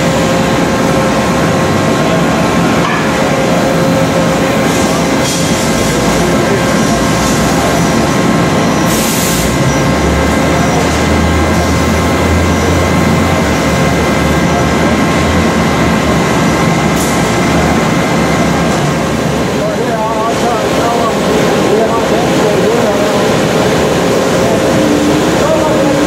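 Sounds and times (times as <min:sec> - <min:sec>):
machine whine: 0:00.0 - 0:26.0
steel processing line running: 0:00.0 - 0:26.0.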